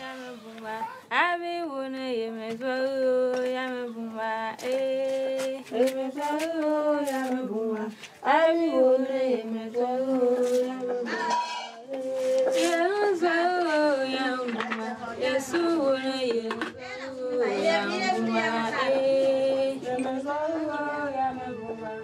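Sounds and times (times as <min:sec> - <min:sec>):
woman singing unaccompanied: 0:00.0 - 0:11.2, 0:11.8 - 0:22.0.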